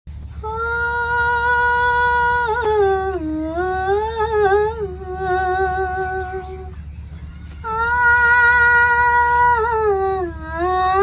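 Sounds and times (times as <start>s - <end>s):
steady low hum: 0.1s - 11.0s
high voice humming: 0.4s - 11.0s.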